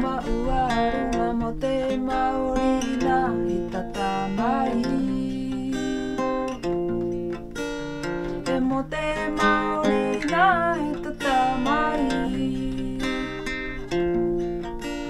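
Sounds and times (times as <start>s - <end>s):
woman singing: 0.0s - 6.6s, 8.3s - 13.8s
acoustic guitar: 0.0s - 15.0s.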